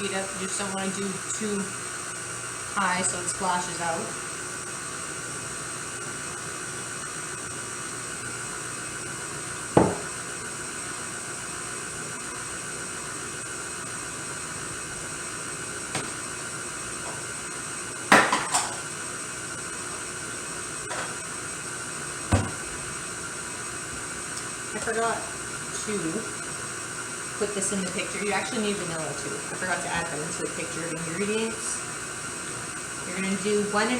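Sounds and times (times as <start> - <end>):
stand mixer motor running: 0.0 - 33.9.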